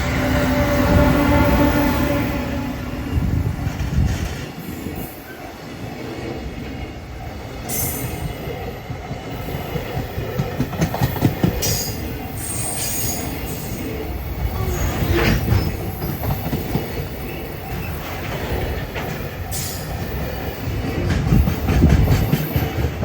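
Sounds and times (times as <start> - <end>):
train wheels clacking: 3.6 - 23.0.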